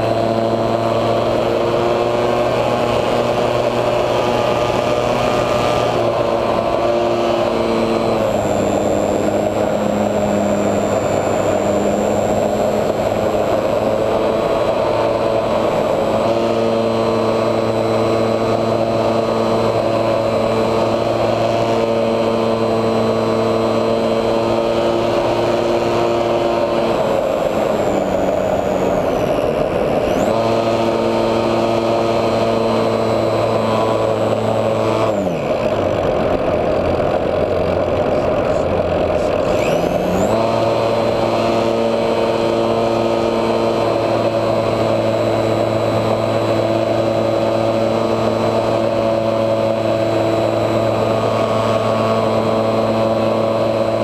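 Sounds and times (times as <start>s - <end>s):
electric motor and propeller whining: 0.0s - 54.0s.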